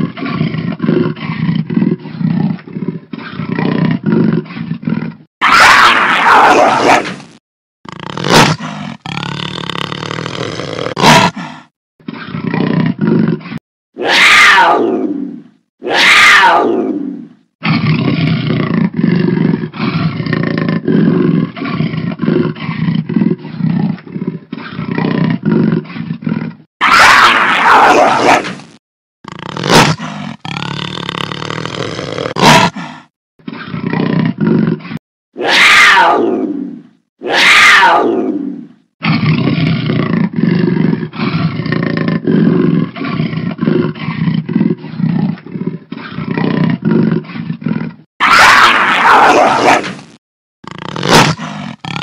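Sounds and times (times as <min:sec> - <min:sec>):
big cat roaring: 0:00.0 - 0:28.6, 0:29.2 - 0:52.0.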